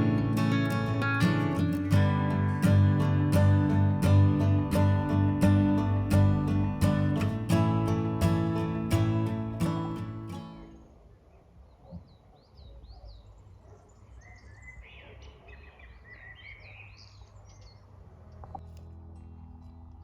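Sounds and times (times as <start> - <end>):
songbirds chirping and singing: 0.0 - 11.0, 11.7 - 18.0.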